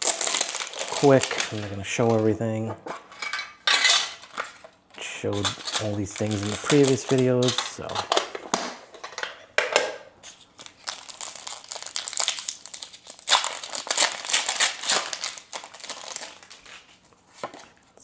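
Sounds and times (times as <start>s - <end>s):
foil wrapper crinkling and tearing: 0.0s - 2.6s, 4.2s - 8.6s, 10.2s - 17.8s.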